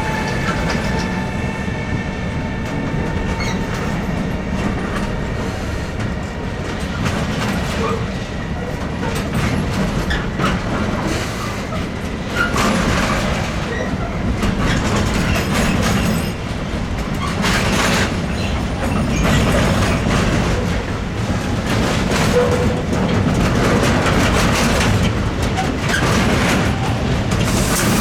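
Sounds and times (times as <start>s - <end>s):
freight train rumbling: 0.0s - 28.0s
train wheel squeals: 0.0s - 28.0s
wheels clacking over rail joints: 0.0s - 28.0s.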